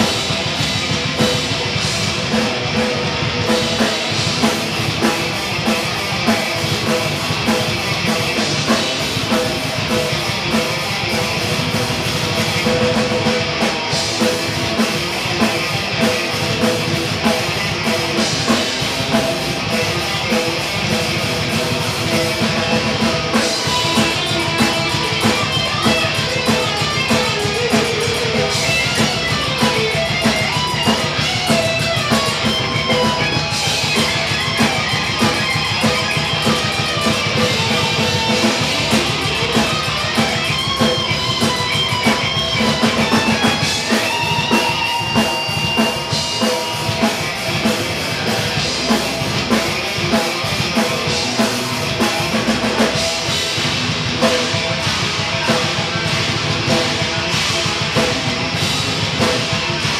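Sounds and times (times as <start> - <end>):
distorted electric guitars: 0.0 - 59.9
fast drum kit: 0.0 - 59.9.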